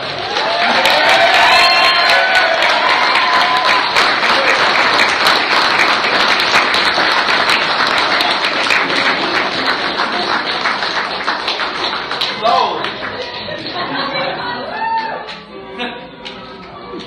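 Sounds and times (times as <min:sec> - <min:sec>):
crowd applauding: 0:00.0 - 0:15.4.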